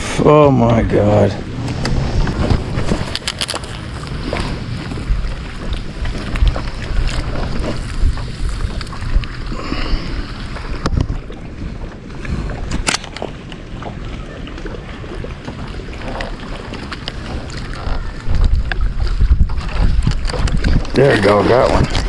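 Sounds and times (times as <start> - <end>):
water lapping against a boat: 0.0 - 22.0
wind buffeting the microphone: 0.0 - 22.0.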